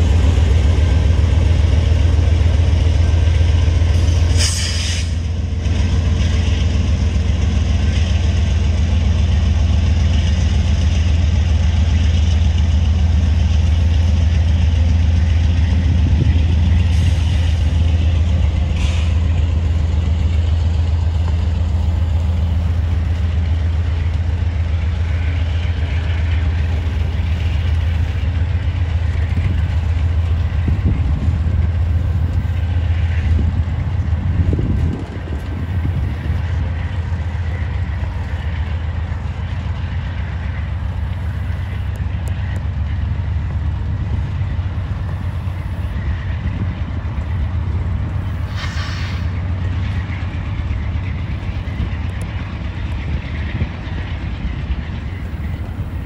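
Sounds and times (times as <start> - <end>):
freight train rumbling by: 0.0 - 56.0.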